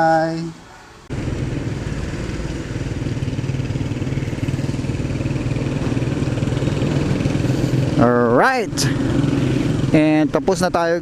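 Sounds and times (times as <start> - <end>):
motorcycle engine running: 1.1 - 11.0.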